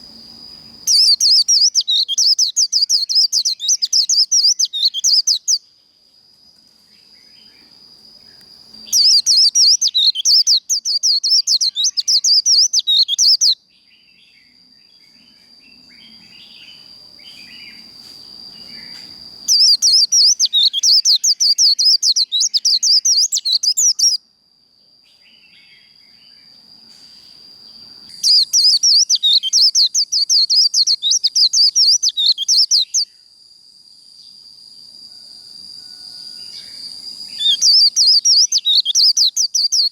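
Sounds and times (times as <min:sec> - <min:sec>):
bird twittering song: 0:00.7 - 0:05.7, 0:08.3 - 0:24.2, 0:25.0 - 0:33.2, 0:36.5 - 0:39.9.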